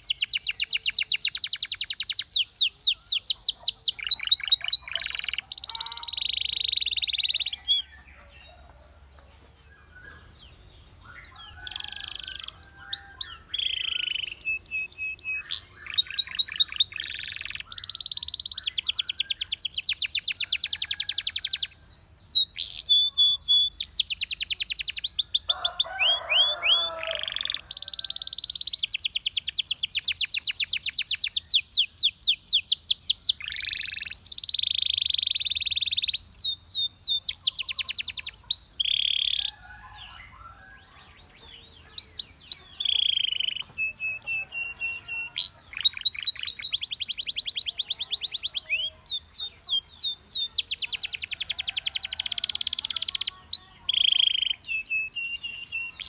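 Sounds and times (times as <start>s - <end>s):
canary singing trills: 0.0s - 8.8s, 9.6s - 56.0s.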